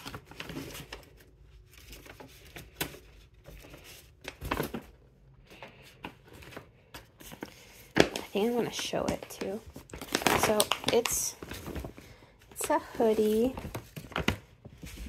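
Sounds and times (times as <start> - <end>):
paper bag rustling and crinkling: 0.0 - 15.0.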